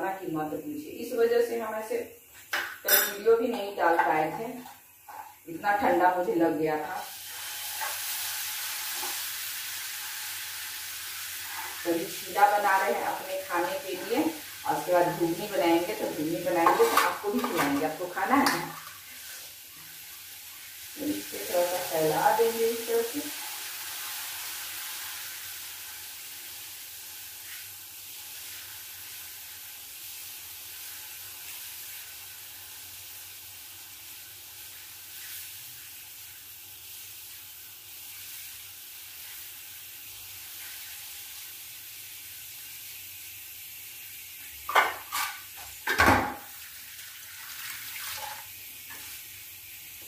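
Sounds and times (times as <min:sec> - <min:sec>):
batter sizzling in a frying pan: 0:00.0 - 0:50.0.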